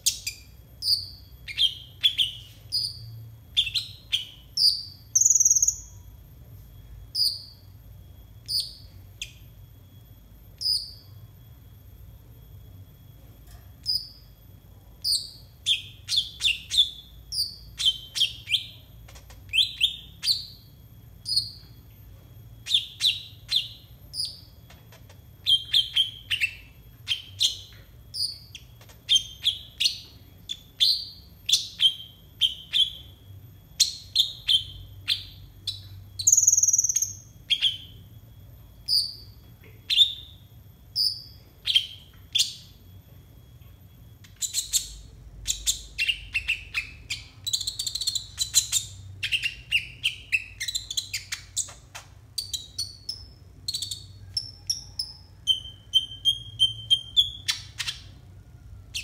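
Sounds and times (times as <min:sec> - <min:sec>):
bird chirping: 0:00.0 - 0:06.2, 0:07.0 - 0:09.6, 0:10.5 - 0:11.2, 0:13.8 - 0:14.4, 0:15.0 - 0:42.9, 0:43.6 - 0:59.0.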